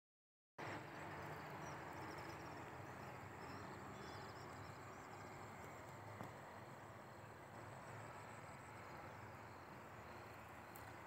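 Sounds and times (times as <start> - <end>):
steady background hiss: 1.0 - 11.0.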